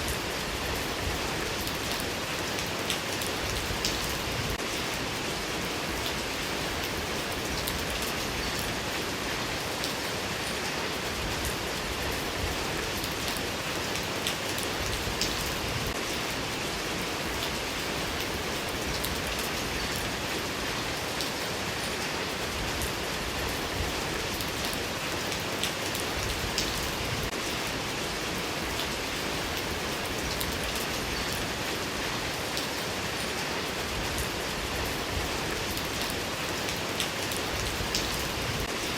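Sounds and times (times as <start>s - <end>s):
rain falling: 0.0s - 38.9s
raindrops ticking on a surface: 0.0s - 38.9s.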